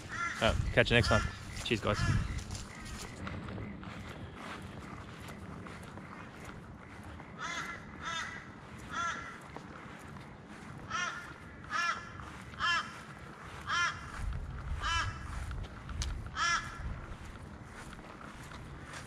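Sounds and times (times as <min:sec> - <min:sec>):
crow cawing: 0:00.0 - 0:03.2, 0:03.8 - 0:15.5, 0:16.2 - 0:19.0.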